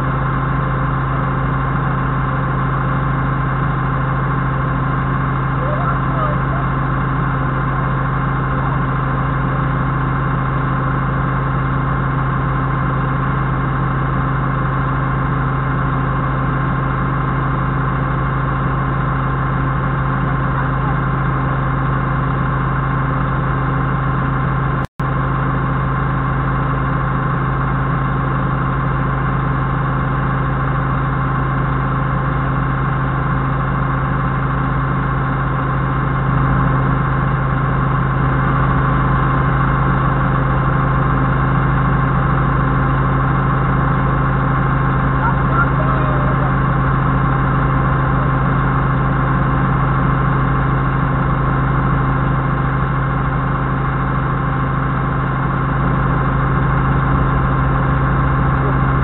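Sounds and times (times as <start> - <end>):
forklift engine idling: 0.0 - 59.0.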